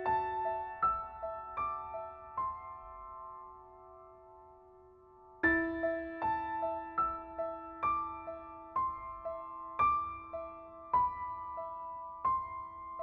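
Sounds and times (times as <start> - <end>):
slow sad piano music: 0.0 - 13.0.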